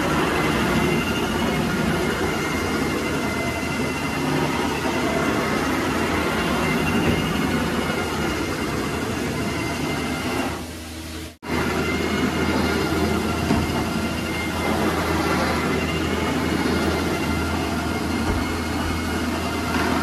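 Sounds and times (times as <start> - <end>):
carpet extractor vacuum and motor: 0.0 - 20.0.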